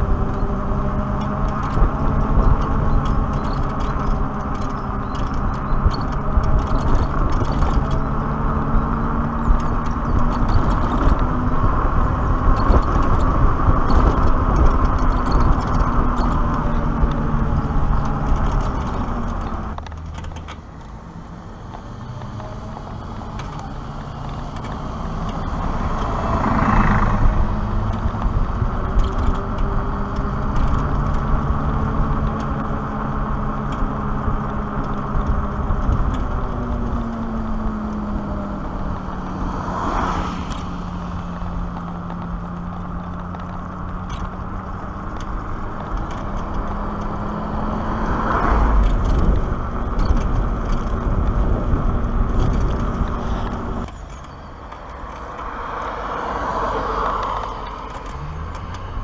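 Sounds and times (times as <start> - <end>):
bus passing: 0.0 - 59.0
tyre noise: 0.0 - 59.0.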